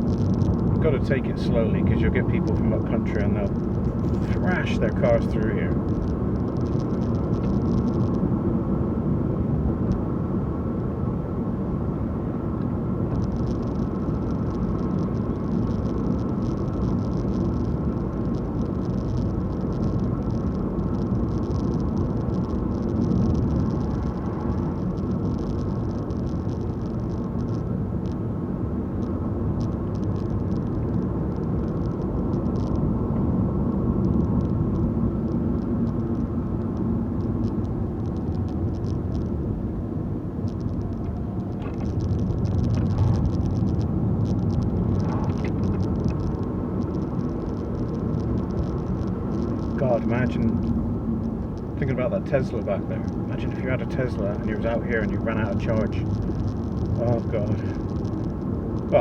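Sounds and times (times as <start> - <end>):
car engine: 0.0 - 59.0
tyre road noise: 0.0 - 59.0.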